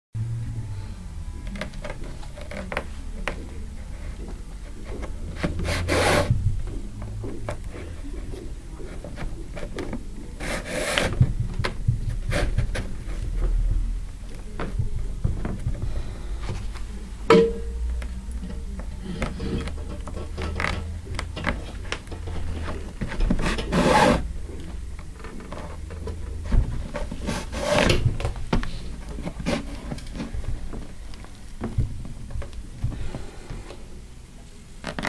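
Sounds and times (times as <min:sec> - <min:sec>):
steady low hum: 0:00.2 - 0:35.0.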